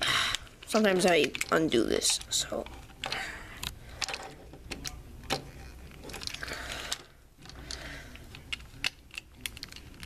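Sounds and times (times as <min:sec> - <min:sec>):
plastic parts clicking and rattling: 0:00.3 - 0:10.0.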